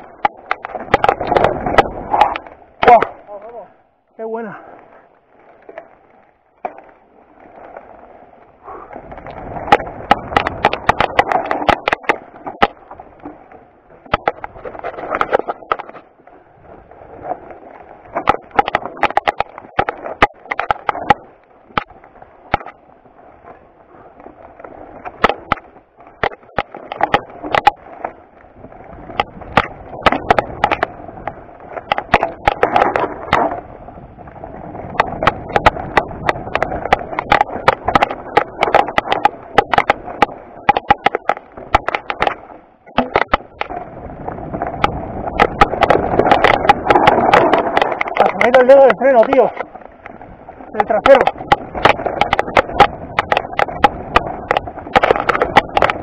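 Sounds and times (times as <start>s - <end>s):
bike knocking and rattling: 0.0s - 56.0s
bike tyres crunching over stones: 0.0s - 56.0s.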